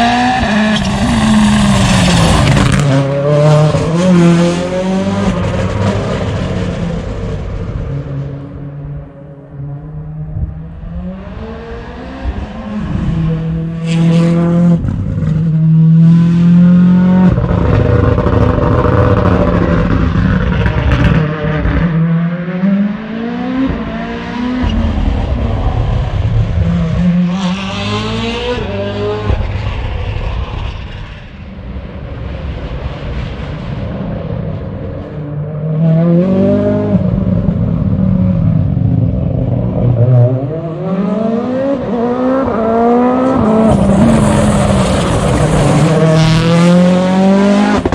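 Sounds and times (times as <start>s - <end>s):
rally car engine accelerating: 0.0s - 47.9s.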